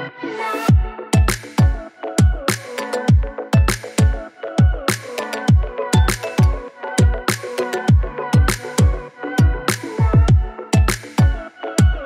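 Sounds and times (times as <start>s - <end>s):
electronic dance music: 0.7s - 12.0s.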